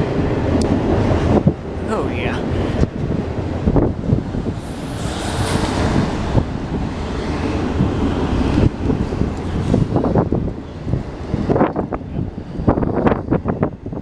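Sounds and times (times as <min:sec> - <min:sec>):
train rumbling past: 0:00.0 - 0:14.0
wind buffeting microphone: 0:00.0 - 0:14.0.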